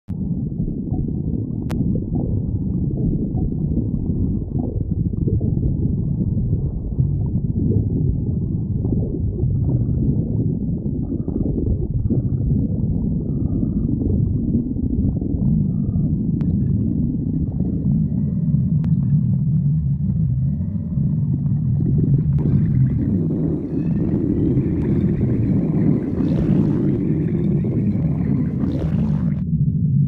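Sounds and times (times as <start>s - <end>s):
stomach growling: 0.1s - 29.5s.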